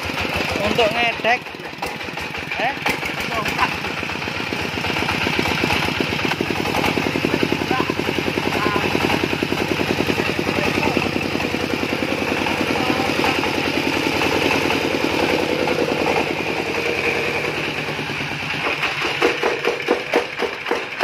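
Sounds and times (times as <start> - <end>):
diesel engine chugging: 0.0 - 21.0.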